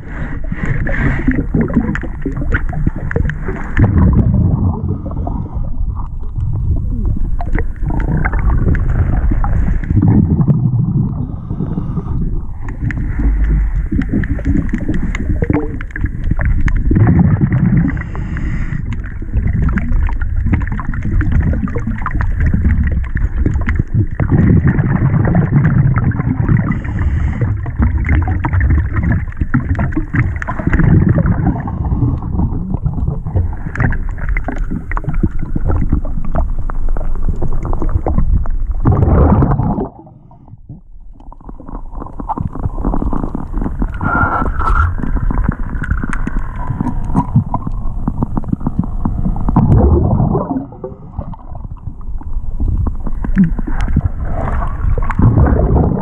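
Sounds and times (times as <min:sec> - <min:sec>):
muffled underwater rumble: 0:00.0 - 0:56.0.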